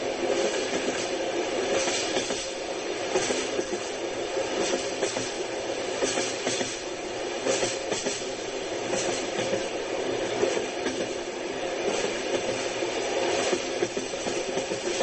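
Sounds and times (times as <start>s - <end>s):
train rumble and rattle: 0.0s - 15.0s.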